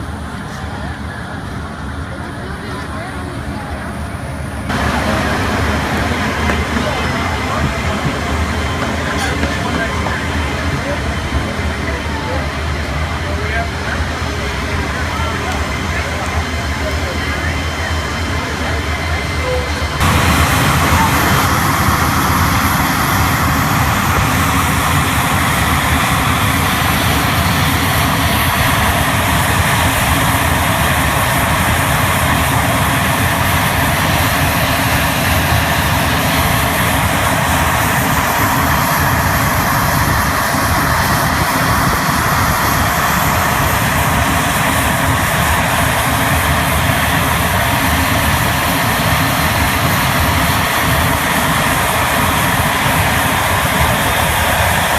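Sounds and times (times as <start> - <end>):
propeller airplane engine droning: 0.0 - 54.9.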